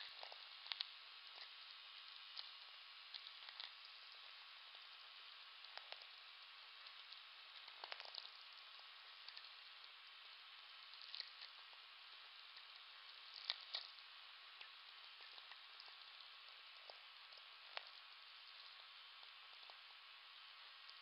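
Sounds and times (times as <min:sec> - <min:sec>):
static hiss: 0:00.0 - 0:21.0.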